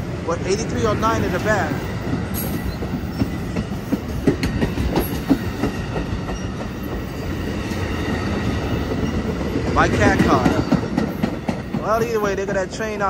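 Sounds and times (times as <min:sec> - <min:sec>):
train wheels rumbling on rail: 0:00.0 - 0:13.0
wheels clicking over rail joints: 0:00.6 - 0:13.0.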